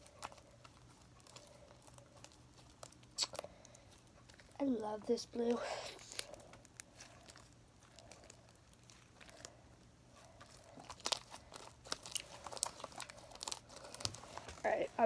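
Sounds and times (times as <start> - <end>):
sticky slime kneaded by hand: 0.0 - 15.0.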